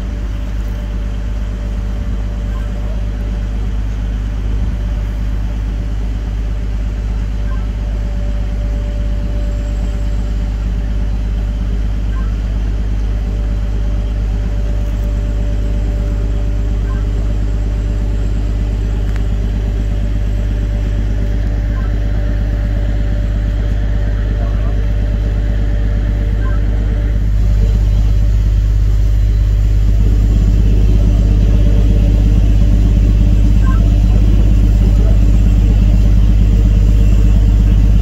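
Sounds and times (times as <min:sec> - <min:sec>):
locomotive engine drone: 0:00.0 - 0:38.0.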